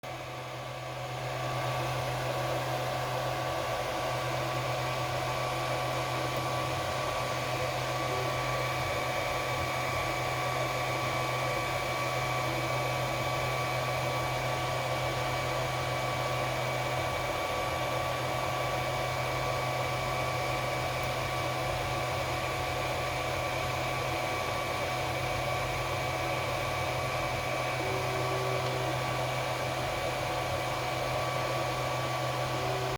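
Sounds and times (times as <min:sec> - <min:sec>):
printer whirring with whining tones: 0:00.0 - 0:32.9.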